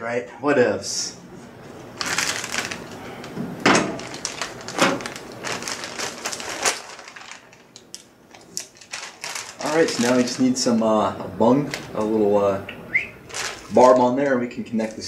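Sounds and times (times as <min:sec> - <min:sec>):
plastic bag crinkling: 0:01.8 - 0:15.0.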